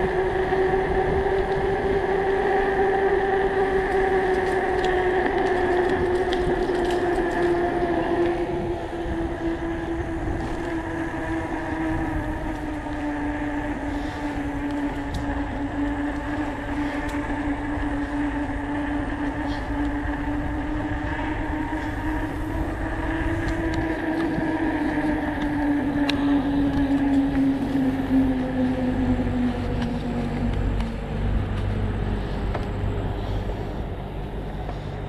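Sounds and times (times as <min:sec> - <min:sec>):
electric bike motor whining: 0:00.0 - 0:35.0
wind and tyre rumble: 0:00.0 - 0:35.0.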